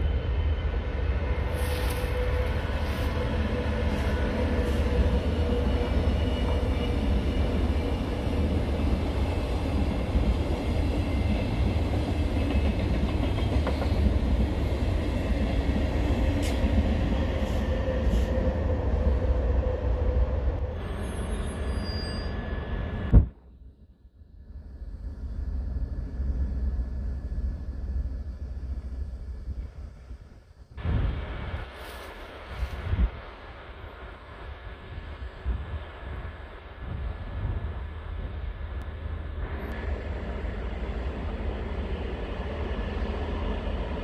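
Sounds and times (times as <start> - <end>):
train rumbling on tracks: 0.0 - 44.0.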